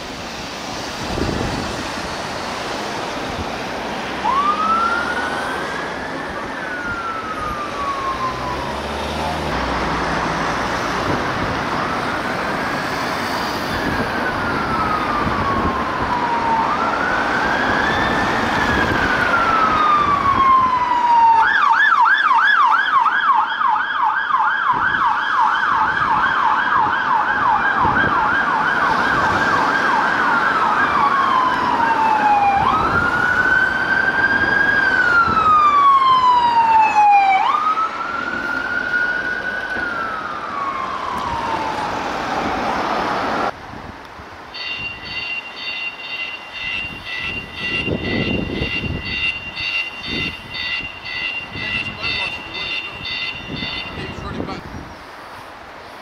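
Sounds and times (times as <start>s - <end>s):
road and engine noise: 0.0s - 56.0s
emergency siren wailing and yelping: 1.0s - 43.5s, 44.6s - 54.5s.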